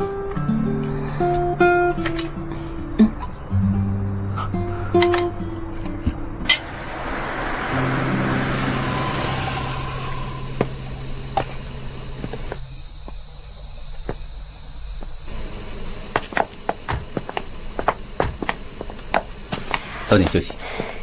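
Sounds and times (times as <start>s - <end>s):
car driving and stopping: 0.0s - 20.6s.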